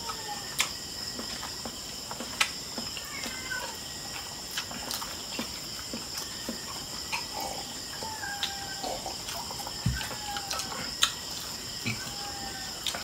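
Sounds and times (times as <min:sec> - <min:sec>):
clicks and smacks of eating: 0:00.0 - 0:13.0
crickets chirring: 0:00.0 - 0:13.0.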